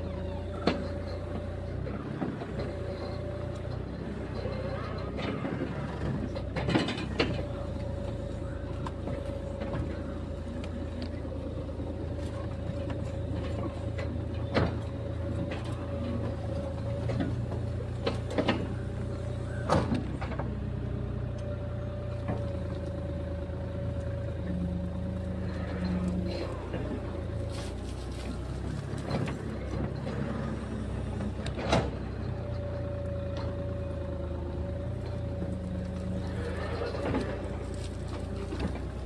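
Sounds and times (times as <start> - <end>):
mini excavator engine hum: 0.0 - 39.0.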